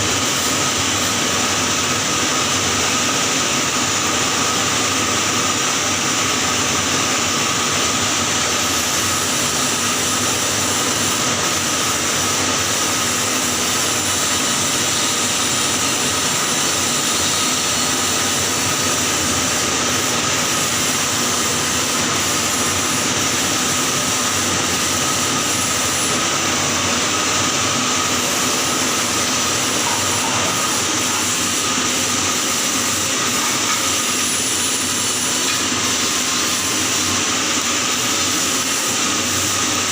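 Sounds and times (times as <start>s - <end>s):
welding arc crackling and hissing: 0.0s - 39.9s.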